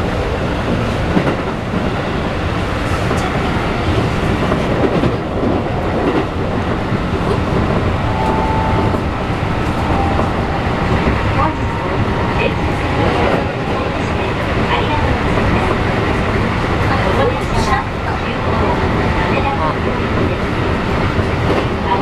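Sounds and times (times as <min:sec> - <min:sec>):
train wheels rolling on rail: 0:00.0 - 0:22.0.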